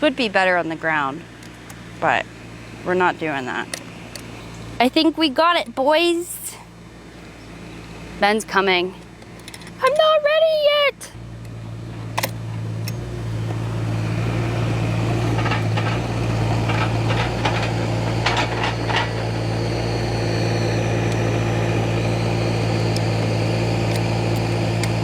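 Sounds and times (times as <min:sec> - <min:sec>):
engine droning steadily: 0:00.0 - 0:25.0.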